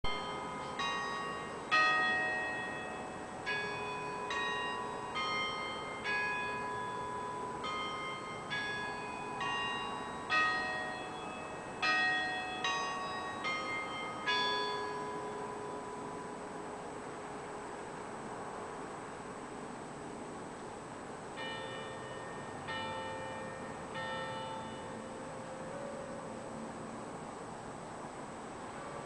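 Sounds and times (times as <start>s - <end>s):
church bells ringing: 0.0s - 18.0s, 21.3s - 27.2s.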